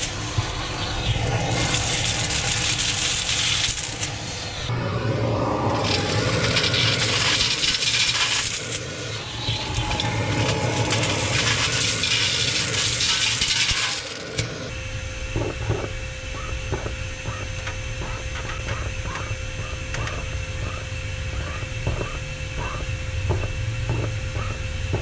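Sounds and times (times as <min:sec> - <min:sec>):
vacuum cleaner hum: 0:00.0 - 0:25.0.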